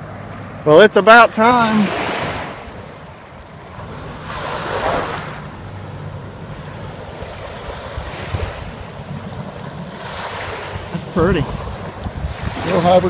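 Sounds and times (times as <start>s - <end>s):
waves lapping on shore: 0.0s - 13.0s
wind buffeting microphone: 1.7s - 13.0s.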